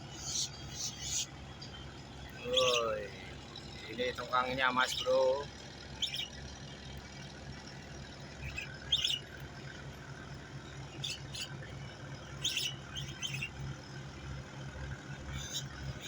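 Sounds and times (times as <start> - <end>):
small birds chirping: 0.0 - 16.0
tugboat engine drone: 0.0 - 16.0.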